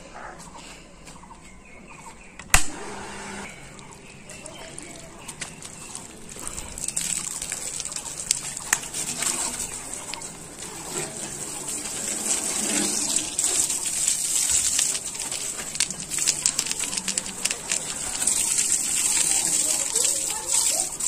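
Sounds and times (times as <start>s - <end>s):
hose water spraying on metal: 2.7s - 21.0s.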